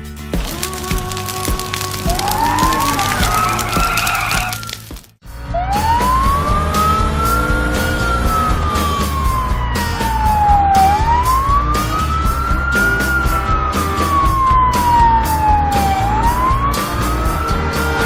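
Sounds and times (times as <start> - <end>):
background music with steady beat: 0.0 - 4.0, 5.2 - 18.0
wailing siren: 2.1 - 4.8, 5.5 - 18.0.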